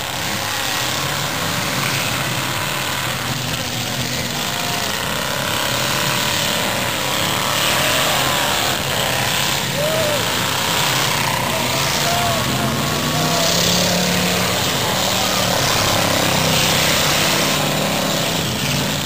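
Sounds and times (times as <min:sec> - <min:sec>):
many car engines revving: 0:00.0 - 0:19.0.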